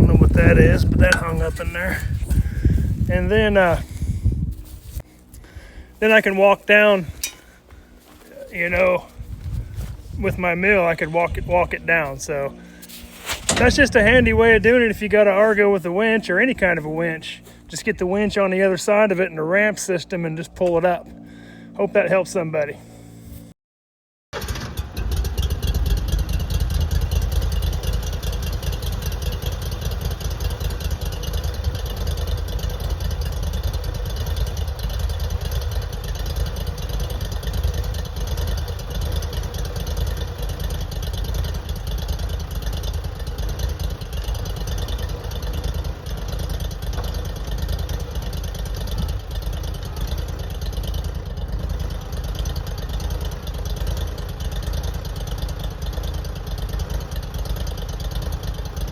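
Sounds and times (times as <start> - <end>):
engine running low rumble: 0.0 - 23.5, 24.4 - 58.9.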